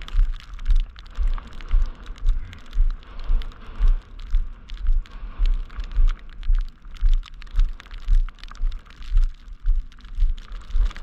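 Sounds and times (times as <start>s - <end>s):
footsteps on slushy snow: 0.0s - 11.0s.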